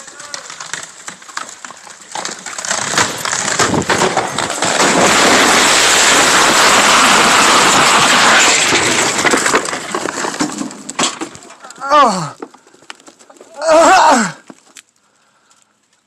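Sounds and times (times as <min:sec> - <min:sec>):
crash of falling tree: 0:00.0 - 0:14.8
tree cracking and snapping: 0:00.0 - 0:16.0.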